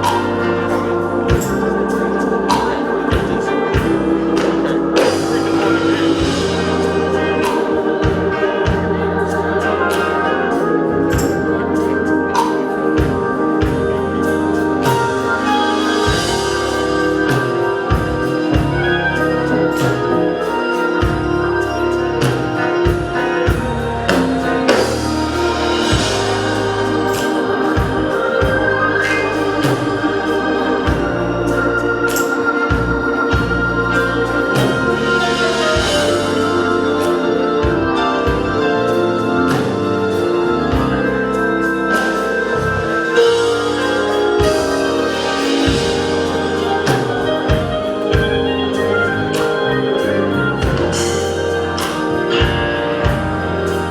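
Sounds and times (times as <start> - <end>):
organ holding sustained chords: 0.0 - 53.9.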